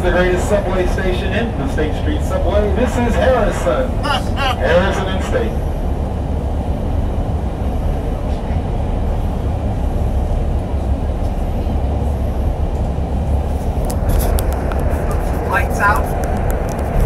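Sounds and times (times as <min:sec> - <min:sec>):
subway train rumbling in tunnel: 0:00.0 - 0:17.0.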